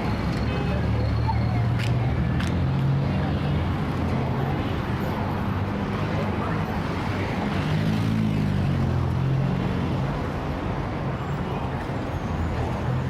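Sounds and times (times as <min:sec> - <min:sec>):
heavy city traffic: 0:00.0 - 0:13.0.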